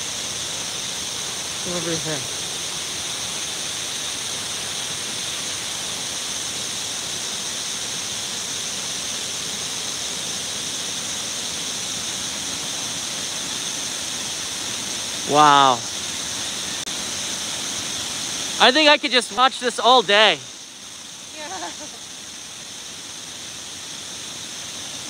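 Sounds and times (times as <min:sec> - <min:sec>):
waterfall rushing: 0:00.0 - 0:20.5.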